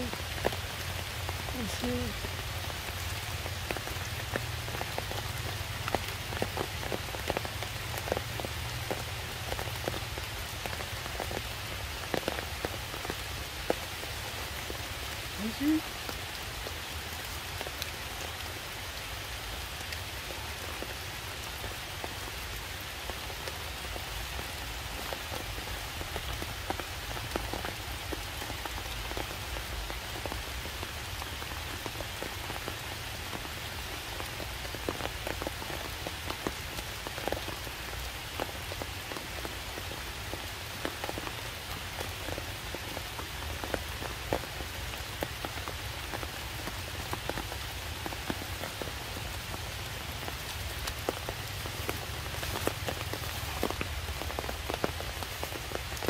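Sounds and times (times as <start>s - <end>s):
rain on stone and leaves: 0.0s - 56.0s.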